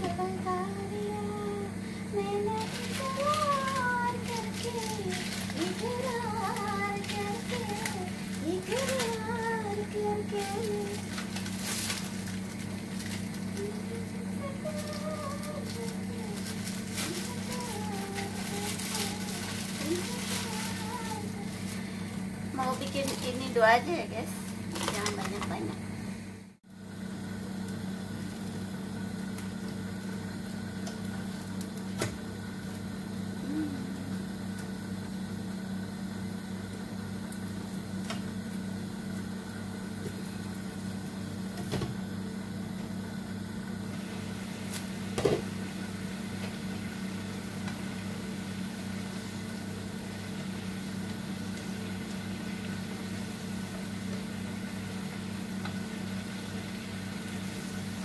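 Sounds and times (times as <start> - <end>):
kitchen appliance humming: 0.0 - 58.0.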